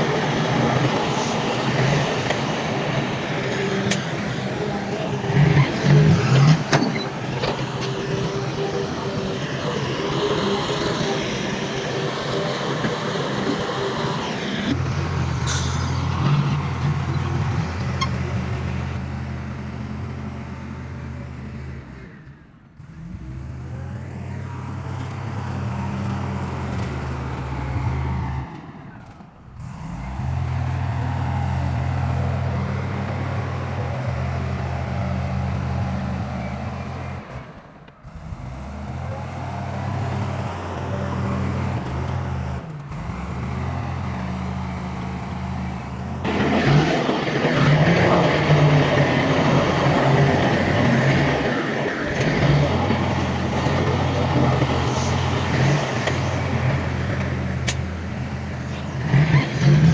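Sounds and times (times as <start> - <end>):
low diesel engine drone: 0.0 - 59.9
machinery clattering and scraping: 0.0 - 59.9.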